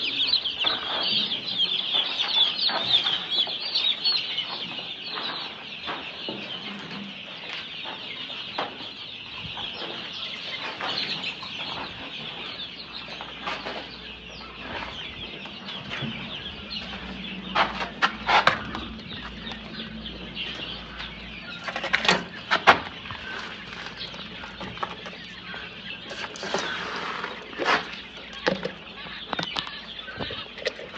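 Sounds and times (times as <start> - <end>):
chickens cheeping and clucking: 0.0 - 30.9.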